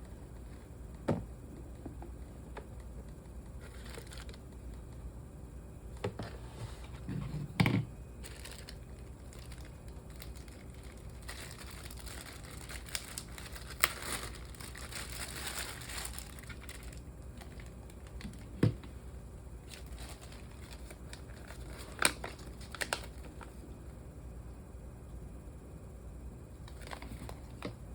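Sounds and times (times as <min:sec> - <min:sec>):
crinkling and rustling handling: 0:00.0 - 0:05.0, 0:05.9 - 0:23.7, 0:26.6 - 0:27.8.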